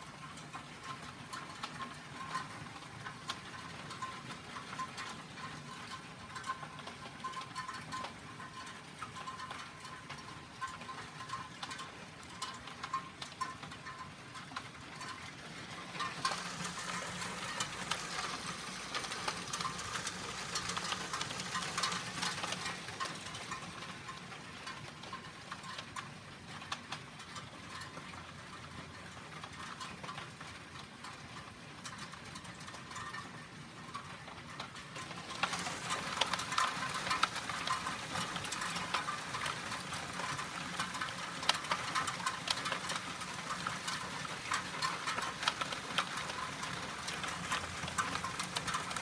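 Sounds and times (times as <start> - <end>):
hail striking ground and cars: 0.0 - 49.0.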